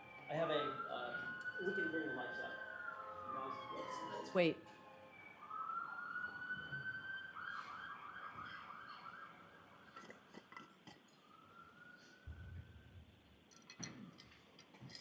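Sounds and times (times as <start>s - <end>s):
faint emergency siren wailing: 0.0s - 13.2s.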